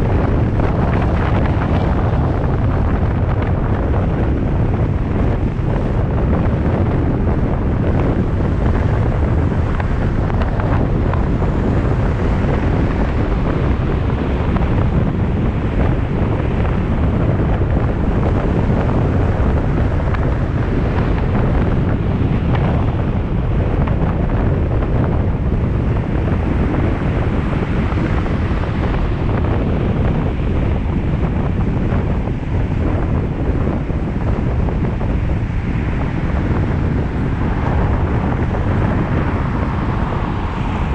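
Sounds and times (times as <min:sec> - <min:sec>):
car road noise at speed: 0:00.0 - 0:40.9
wind buffeting microphone: 0:00.0 - 0:40.9.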